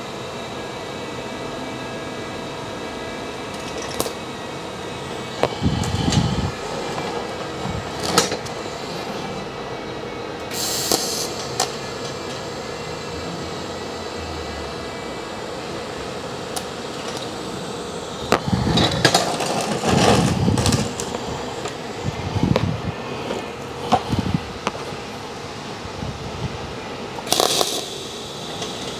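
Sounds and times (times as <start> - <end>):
steady hum: 0.0 - 28.9.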